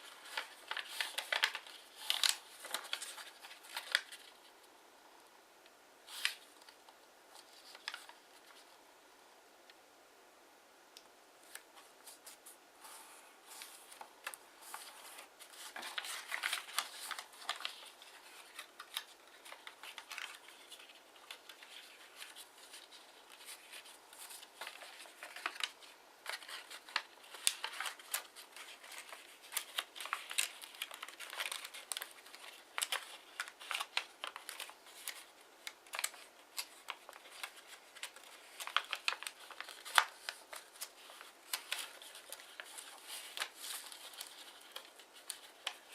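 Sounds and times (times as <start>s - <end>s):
paper rustling and crackling: 0.0s - 4.5s, 6.0s - 8.8s, 11.4s - 45.9s.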